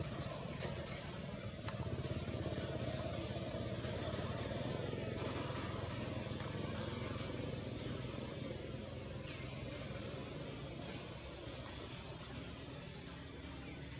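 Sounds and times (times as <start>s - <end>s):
engine drone: 0.0s - 13.9s.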